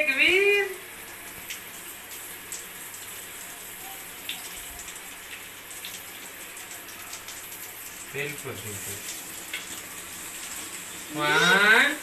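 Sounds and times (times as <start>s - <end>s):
tap water running into basin: 0.0s - 12.0s
water splashes and drips: 0.8s - 12.0s.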